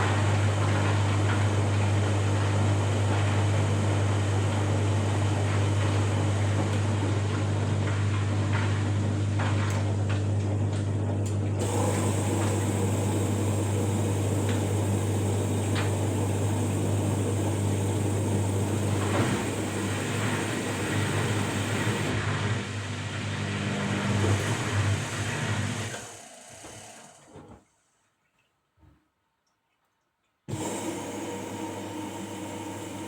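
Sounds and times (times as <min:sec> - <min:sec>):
washing machine running: 0:00.0 - 0:27.8, 0:30.5 - 0:33.0.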